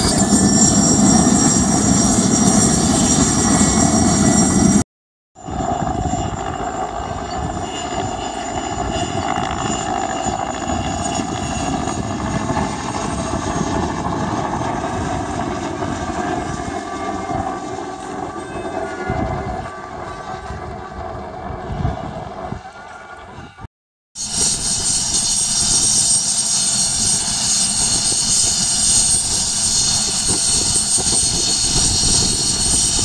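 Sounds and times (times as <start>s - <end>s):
helicopter flying overhead: 0.0s - 4.8s, 5.4s - 33.0s.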